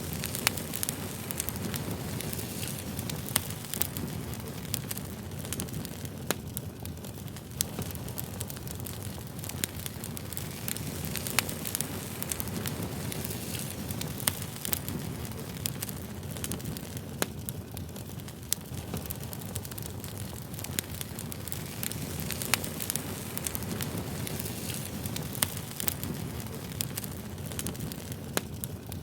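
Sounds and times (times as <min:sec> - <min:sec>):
burning wood crackling and popping: 0:00.0 - 0:29.0
campfire flames rumbling: 0:00.0 - 0:29.0.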